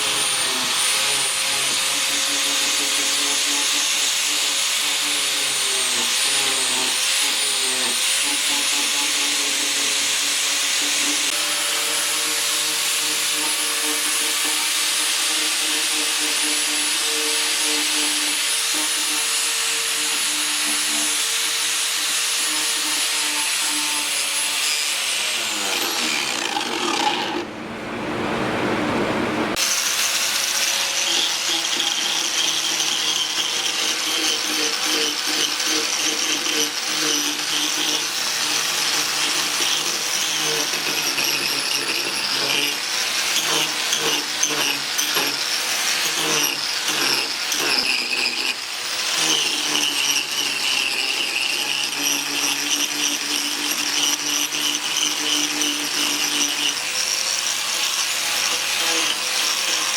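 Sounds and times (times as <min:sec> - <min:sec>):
angle grinder cutting wood: 0:00.0 - 0:27.5, 0:29.6 - 0:59.9.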